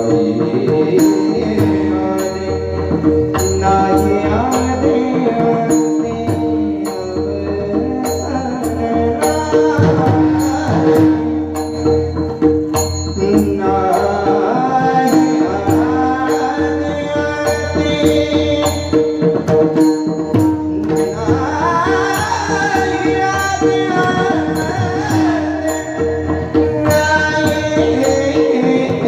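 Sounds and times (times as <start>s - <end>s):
men singing devotional song: 0.0s - 11.6s, 13.2s - 19.8s, 20.5s - 29.0s
hand drum: 0.0s - 29.0s.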